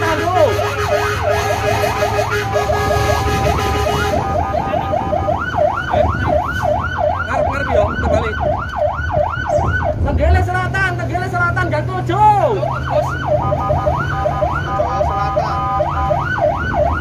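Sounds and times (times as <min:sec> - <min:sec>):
electronic siren: 0:00.0 - 0:10.1, 0:12.4 - 0:17.0
engine low rumble: 0:00.0 - 0:17.0.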